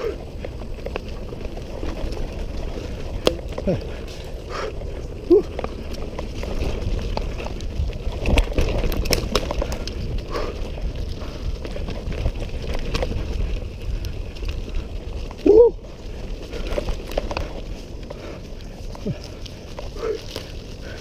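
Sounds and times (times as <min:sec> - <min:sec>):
bike chain and frame rattling: 0:00.0 - 0:21.0
bike tyres on loose dirt: 0:00.0 - 0:21.0.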